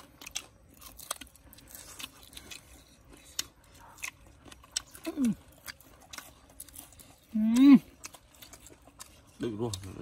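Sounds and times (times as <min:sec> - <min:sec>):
chewing crunches and clicks: 0:00.0 - 0:10.0.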